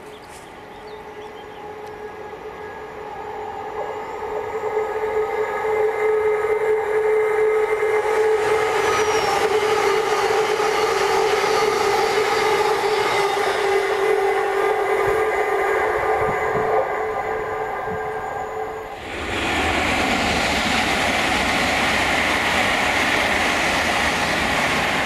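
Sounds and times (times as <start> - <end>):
steady train whine: 0.0 - 25.0
train rushing past on rails: 0.0 - 25.0.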